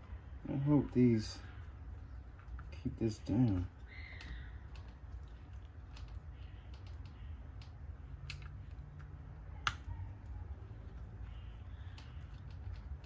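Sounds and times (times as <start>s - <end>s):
steady low hum: 0.0s - 13.0s
small parts clicking and tapping: 2.0s - 13.0s.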